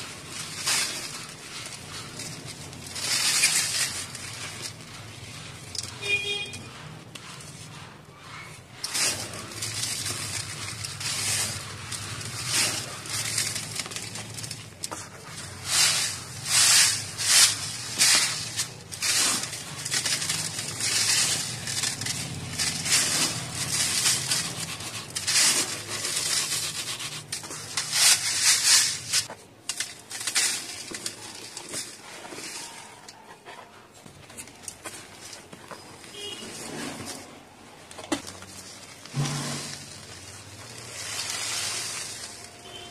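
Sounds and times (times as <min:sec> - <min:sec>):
dirt crunching against metal sieve: 0:00.0 - 0:42.9.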